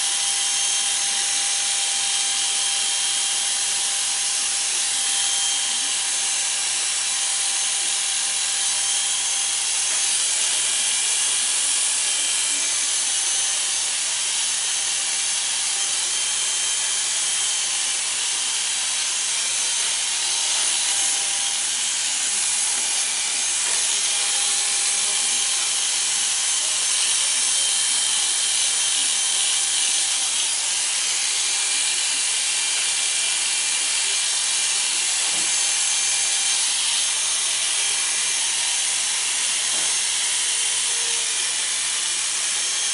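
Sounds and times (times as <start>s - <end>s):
electric hair clippers cutting hair: 0.0s - 42.9s.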